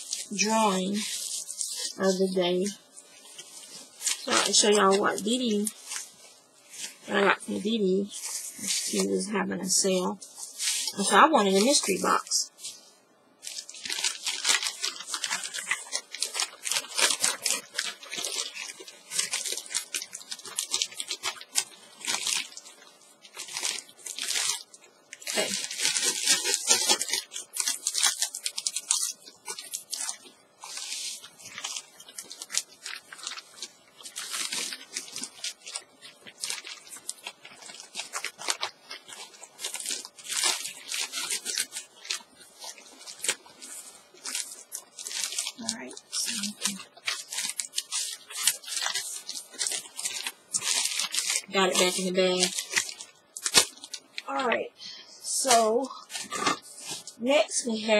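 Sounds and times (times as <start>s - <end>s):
plastic bag crinkling: 0.0s - 57.9s.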